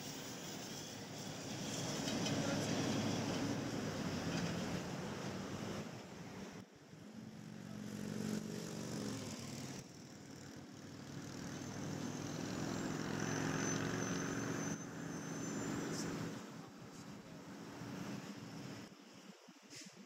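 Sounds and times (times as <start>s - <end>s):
vehicle engines passing: 0.7s - 18.9s.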